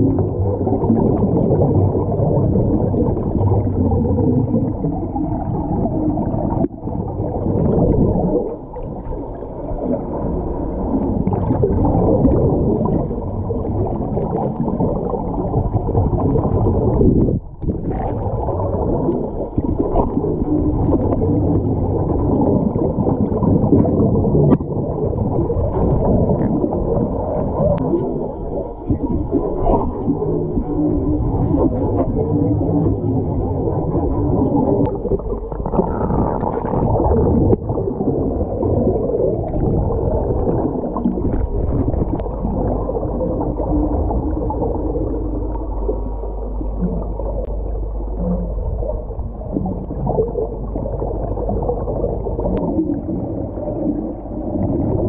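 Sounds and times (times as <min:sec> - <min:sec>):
underwater water rushing and bubbling: 0:00.0 - 0:55.0.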